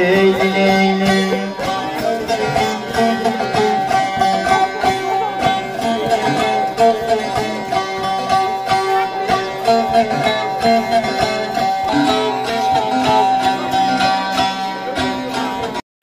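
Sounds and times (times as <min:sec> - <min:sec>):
plucked lute folk dance tune: 0:00.0 - 0:15.8.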